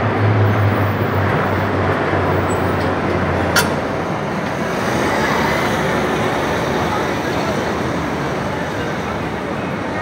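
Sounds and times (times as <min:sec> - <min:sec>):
propeller aircraft drone overhead: 0:00.0 - 0:10.0
street traffic noise: 0:00.0 - 0:10.0.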